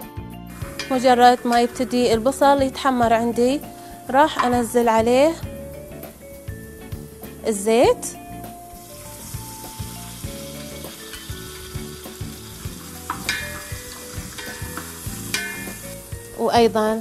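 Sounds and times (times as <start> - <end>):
onions sizzling in oil: 0.4 - 17.0.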